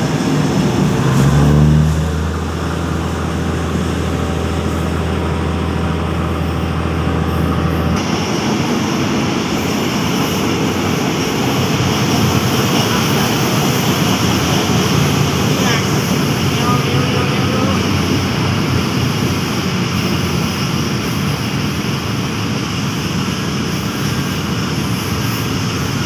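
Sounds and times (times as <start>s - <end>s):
low drone: 0.0s - 26.0s
train running on rails: 0.0s - 26.0s.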